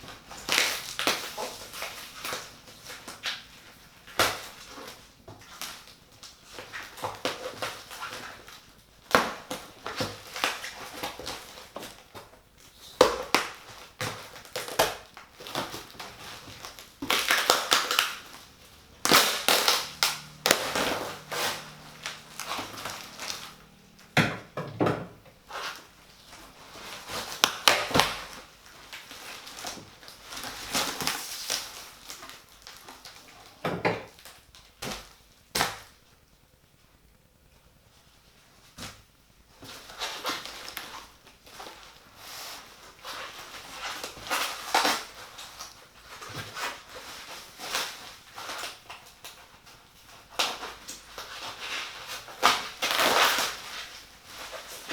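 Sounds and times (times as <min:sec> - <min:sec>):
packaging crinkling and rustling: 0:00.0 - 0:36.1, 0:38.4 - 0:54.9.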